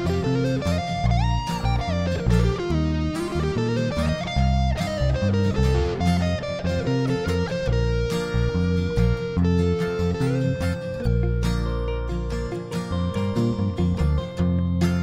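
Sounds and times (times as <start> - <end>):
bass line: 0.0 - 15.0
electric guitar lead melody: 0.0 - 15.0.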